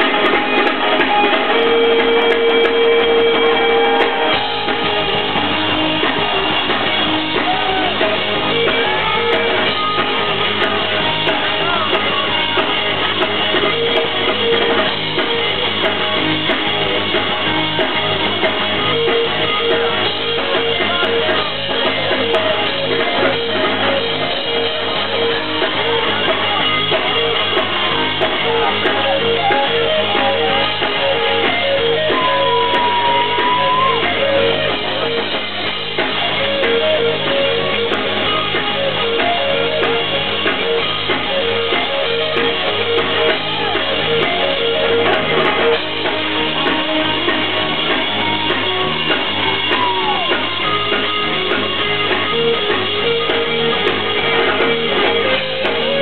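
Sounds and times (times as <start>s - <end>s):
drum kit: 0.0s - 56.0s
electric bass: 0.0s - 56.0s
keyboard synthesizers: 0.0s - 56.0s.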